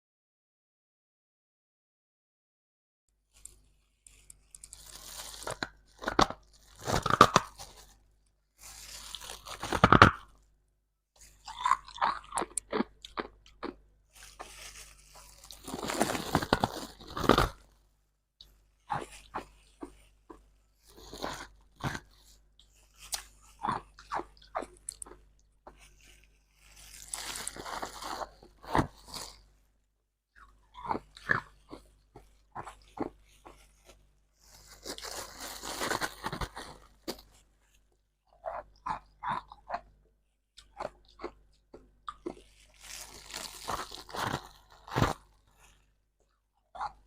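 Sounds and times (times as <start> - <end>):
frost crunching while chewed: 3.3 - 10.4, 11.2 - 17.8, 18.4 - 29.5, 30.3 - 47.0.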